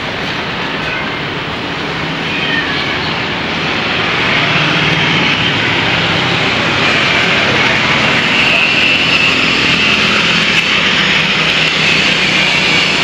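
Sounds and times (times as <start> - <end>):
jet airliner engines whining: 0.0 - 13.0.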